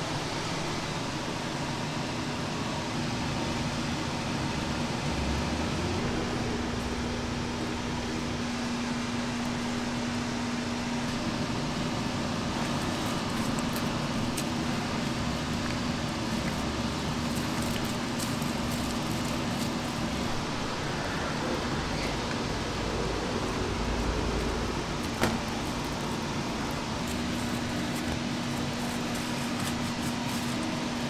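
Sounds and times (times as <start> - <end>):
kitchen ventilation hum: 0.0 - 31.0.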